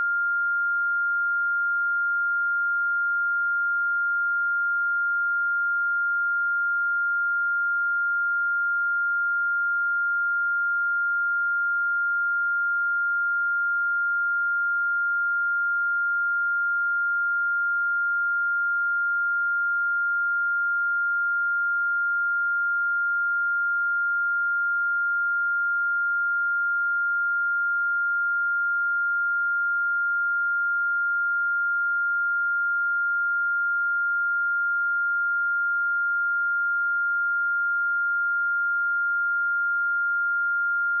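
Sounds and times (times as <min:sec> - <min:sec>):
high-pitched sine test tone: 0:00.0 - 0:41.0.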